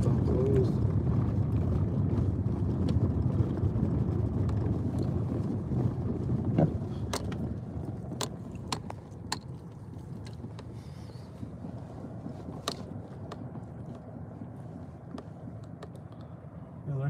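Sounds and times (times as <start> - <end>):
tyres rumbling on snowy road: 0.0 - 17.0.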